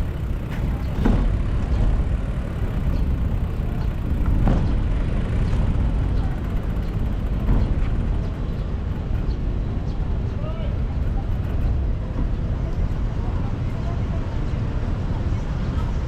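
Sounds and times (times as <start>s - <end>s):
heavy low rumble: 0.0s - 16.0s
motor vehicles passing: 0.0s - 16.0s.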